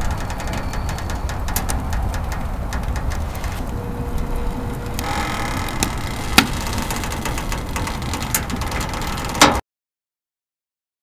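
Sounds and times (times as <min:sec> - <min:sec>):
fire rumbling in a stove: 0:00.0 - 0:09.6
wood crackling and popping: 0:00.0 - 0:09.6.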